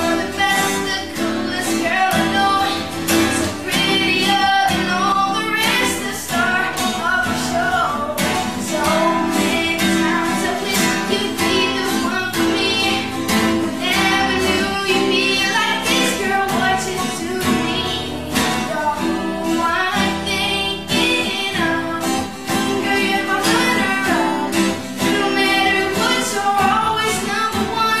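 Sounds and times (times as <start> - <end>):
guitar accompaniment: 0.0 - 28.0
pop song singing: 0.0 - 28.0.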